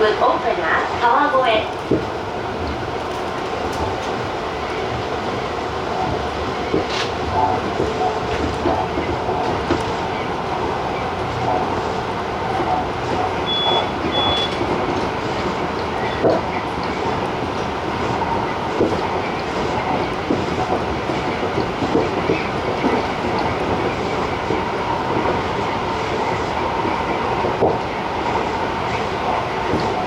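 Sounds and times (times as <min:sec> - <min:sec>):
train wheels rumbling on rail: 0:00.0 - 0:30.0
wheels clicking over rail joints: 0:05.9 - 0:30.0.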